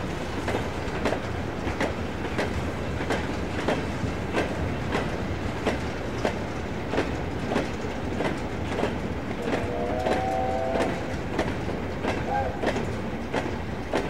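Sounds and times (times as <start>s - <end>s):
train wheels clickety-clack: 0.0s - 14.0s.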